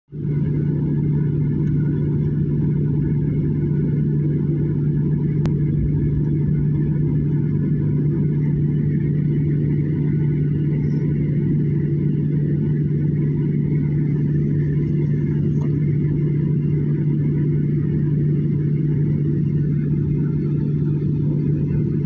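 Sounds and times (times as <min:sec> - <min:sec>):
jet engine drone in cabin: 0:00.1 - 0:22.0.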